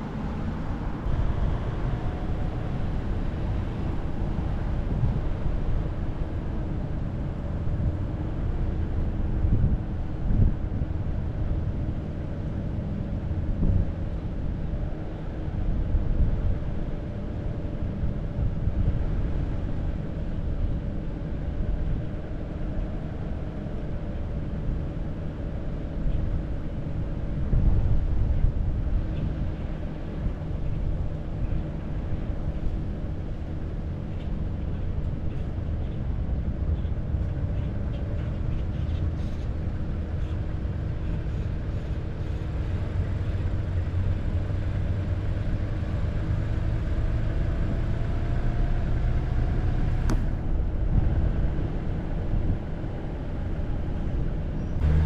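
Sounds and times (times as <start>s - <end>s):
car driving slowly: 0.0s - 55.0s.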